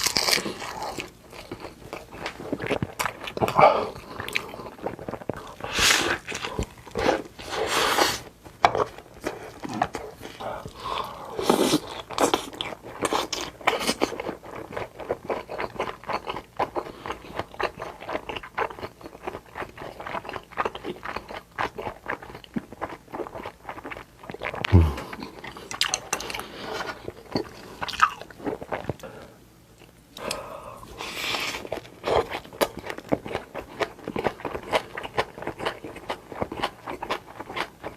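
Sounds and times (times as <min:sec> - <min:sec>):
chewing with wet mouth clicks: 0:00.0 - 0:07.1, 0:11.8 - 0:29.0, 0:31.6 - 0:37.9.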